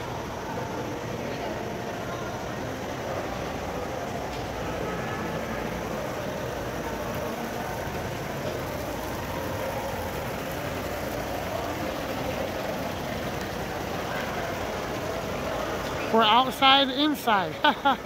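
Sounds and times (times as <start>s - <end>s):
many distant voices: 0.0s - 18.0s.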